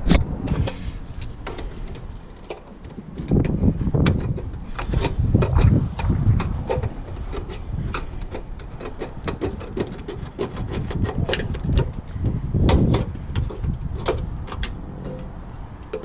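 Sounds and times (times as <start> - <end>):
low rumble: 0.0 - 8.7, 11.6 - 16.0.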